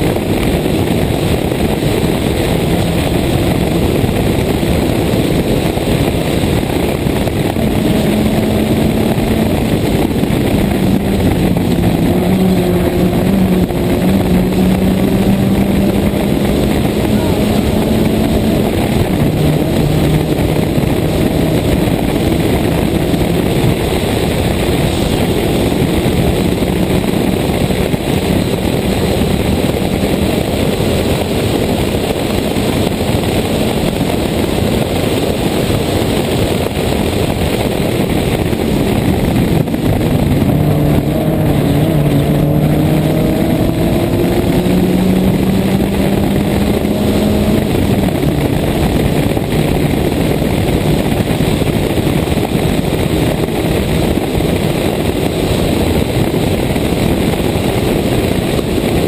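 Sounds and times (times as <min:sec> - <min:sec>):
rally car engine revving: 0:00.0 - 0:59.0
wind and road noise: 0:00.0 - 0:59.0.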